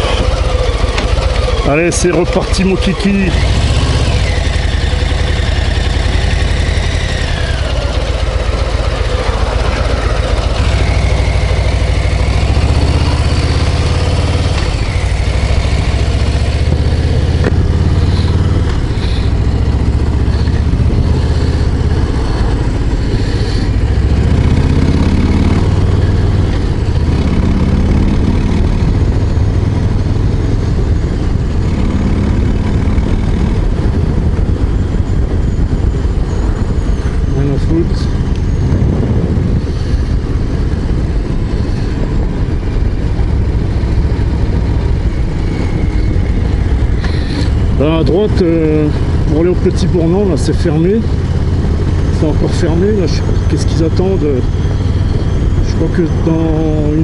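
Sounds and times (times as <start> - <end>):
motorcycle engine running loud: 0.0 - 57.0.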